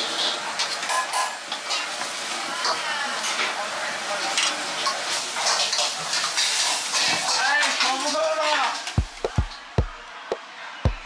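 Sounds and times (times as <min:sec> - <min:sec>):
hot oil sizzling: 0:00.0 - 0:09.4.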